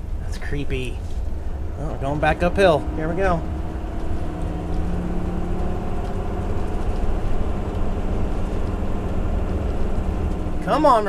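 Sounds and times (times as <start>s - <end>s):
engine droning uphill: 0.0s - 11.0s
road rumble: 0.0s - 11.0s.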